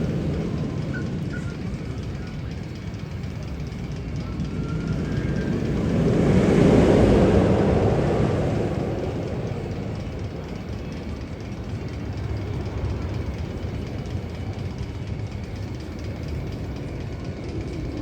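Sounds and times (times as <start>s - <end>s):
deep rushing rumble: 0.0s - 18.0s.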